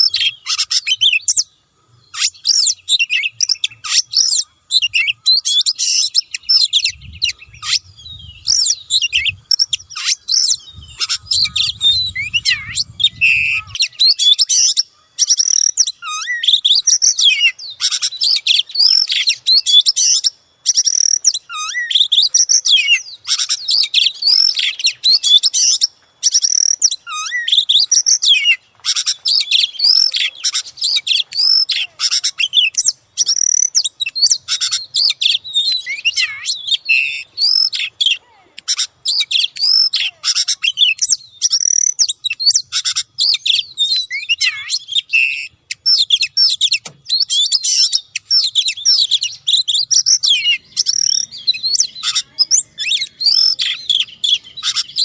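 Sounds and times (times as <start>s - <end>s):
songbird singing whistles and trills: 0.0s - 55.0s.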